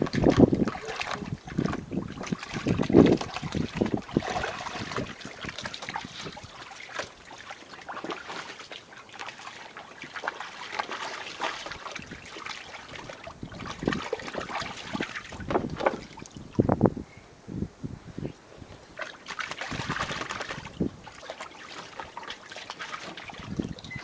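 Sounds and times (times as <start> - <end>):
puppy splashing in pool water: 0.0 - 16.6, 19.0 - 24.0.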